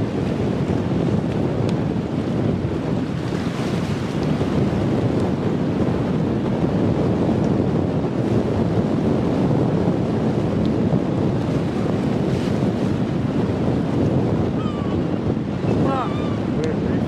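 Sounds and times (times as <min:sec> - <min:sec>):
surf rushing: 0:00.0 - 0:06.9, 0:10.2 - 0:17.0
wind rumbling on microphone: 0:00.0 - 0:17.0.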